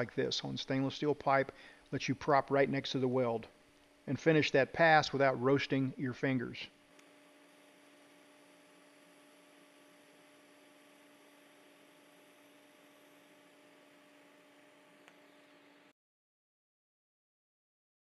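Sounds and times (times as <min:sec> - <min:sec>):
faint electrical hum: 0:00.0 - 0:15.9.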